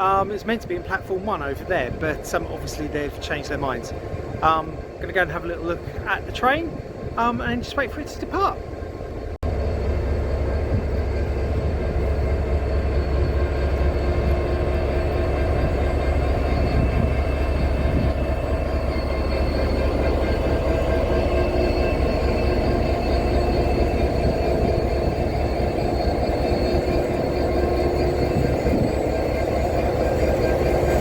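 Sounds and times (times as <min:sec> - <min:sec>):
diesel locomotive engine idling: 0:00.0 - 0:31.0.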